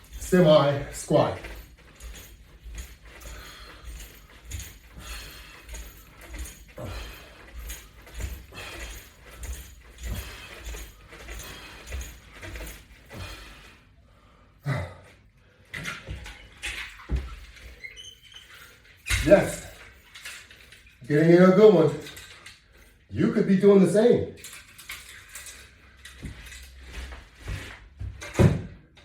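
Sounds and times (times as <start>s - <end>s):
metal clips jangling and clinking: 0.0s - 13.7s, 15.7s - 23.5s, 24.3s - 28.4s.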